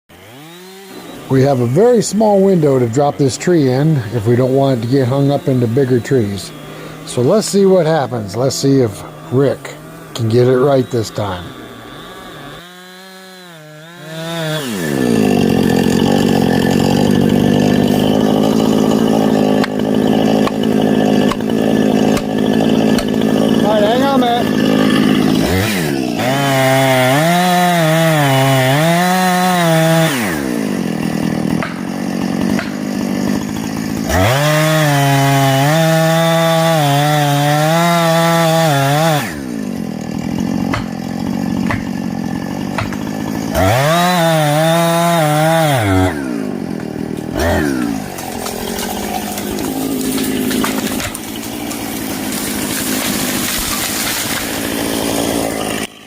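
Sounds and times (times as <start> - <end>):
chainsaw revving: 0.1 - 56.0.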